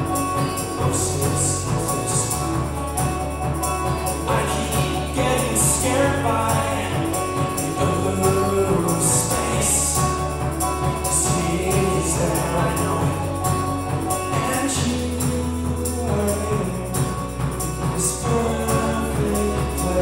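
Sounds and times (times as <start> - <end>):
folk-pop band playing live: 0.0 - 20.0
voices singing together: 0.0 - 20.0.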